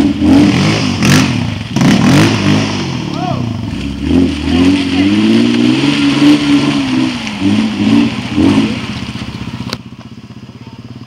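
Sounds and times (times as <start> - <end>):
truck engine revving: 0.0 - 10.5.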